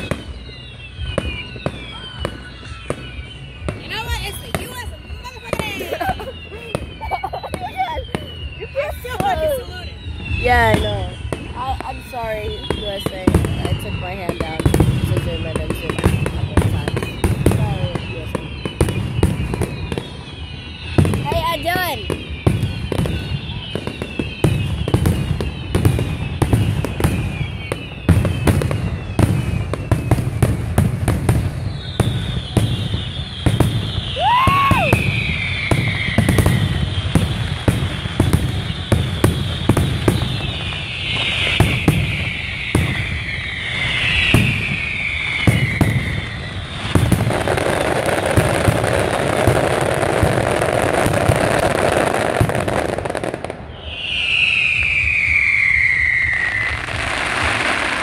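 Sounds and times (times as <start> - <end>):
fireworks bangs: 0.0 - 58.0
fireworks crackle: 0.0 - 58.0
whistling fireworks: 0.0 - 58.0.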